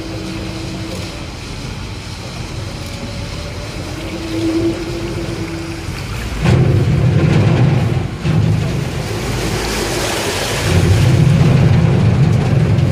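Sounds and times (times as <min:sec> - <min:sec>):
boat engine rumble: 0:00.0 - 0:12.9
water rushing: 0:00.0 - 0:12.9
wind noise on microphone: 0:00.0 - 0:12.9.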